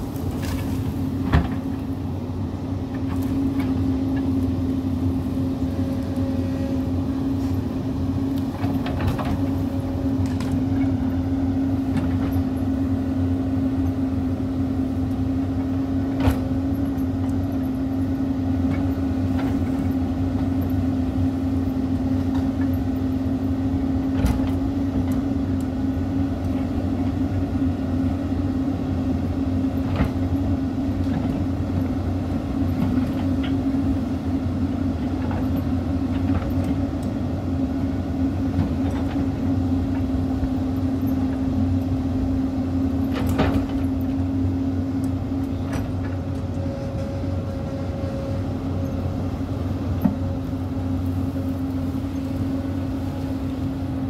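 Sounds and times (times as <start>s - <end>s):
excavator engine and hydraulics: 0.0s - 54.0s.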